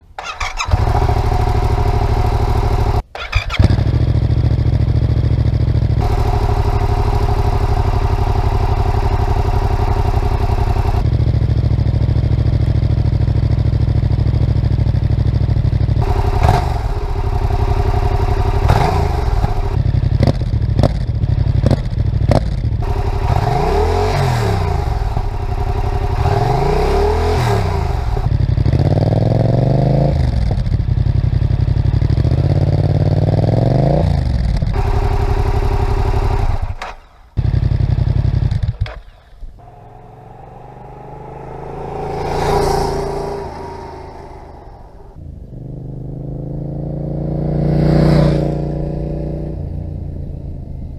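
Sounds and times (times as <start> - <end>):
motorcycle engine idling and revving: 0.0 - 50.9.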